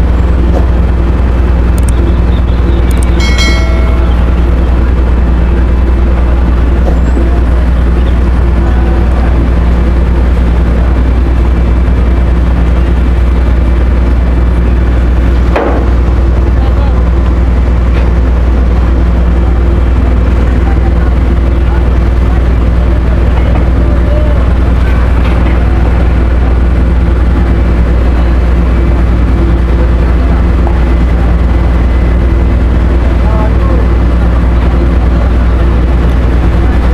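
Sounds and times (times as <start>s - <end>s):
ferry engines droning: 0.0s - 36.9s.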